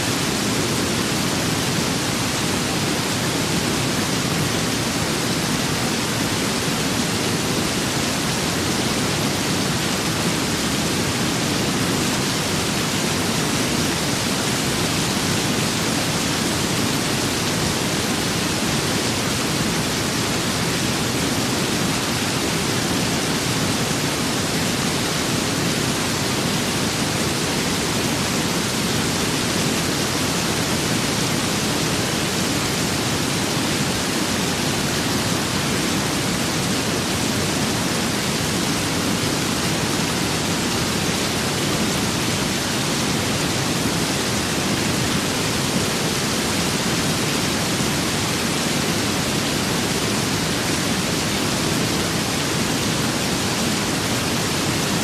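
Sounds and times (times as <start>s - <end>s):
rain and wind hiss: 0.0s - 55.0s.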